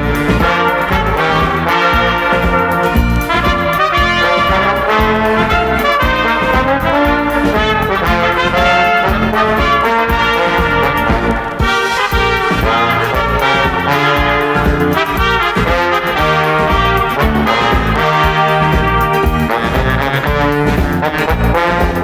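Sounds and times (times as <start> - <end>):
orchestra playing a march: 0.0 - 22.0.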